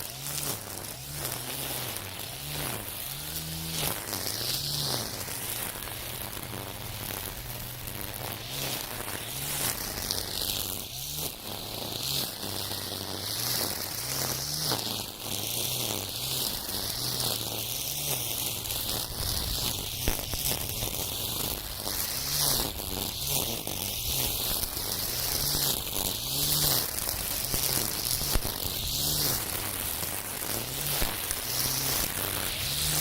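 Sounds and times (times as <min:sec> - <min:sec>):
string trimmer motor humming: 0:00.0 - 0:33.0
trimmer cord whirring: 0:00.0 - 0:33.0.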